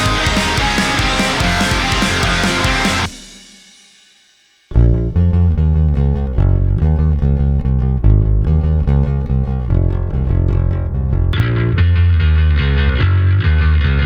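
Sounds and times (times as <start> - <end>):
electric bass riff: 0.0 - 3.1, 4.7 - 14.0.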